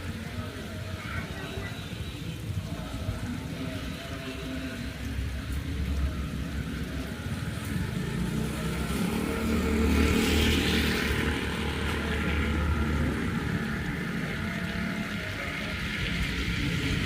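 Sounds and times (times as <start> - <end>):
tyres hissing on wet road: 0.0 - 17.0
vehicle engine rumble: 2.1 - 17.0.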